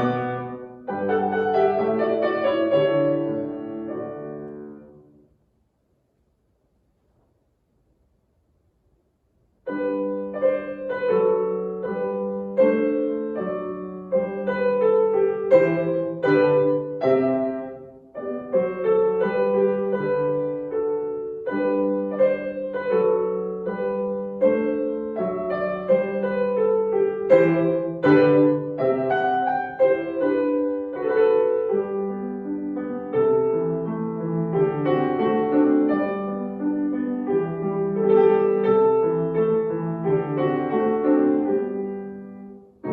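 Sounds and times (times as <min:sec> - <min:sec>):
solo piano piece: 0:00.0 - 0:05.6, 0:07.0 - 0:42.9.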